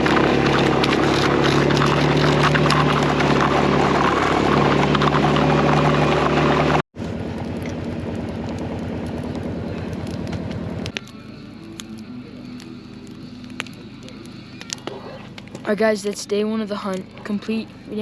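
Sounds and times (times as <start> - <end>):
engine with pulsing beat: 0.0 - 15.8
utv engine running: 0.0 - 18.0.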